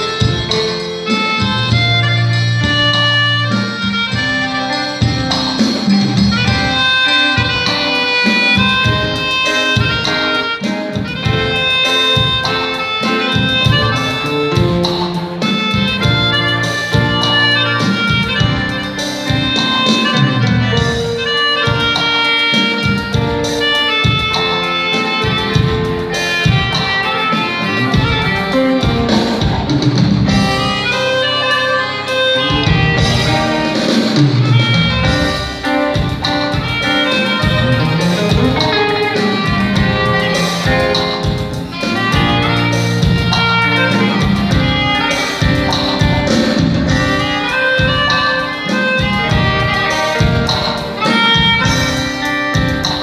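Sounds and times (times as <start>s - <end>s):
live instrumental band music: 0.0s - 53.0s.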